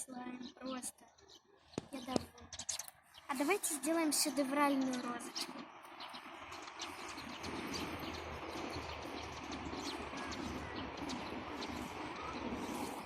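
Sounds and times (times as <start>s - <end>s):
birds calling and chirping: 0.0s - 13.0s.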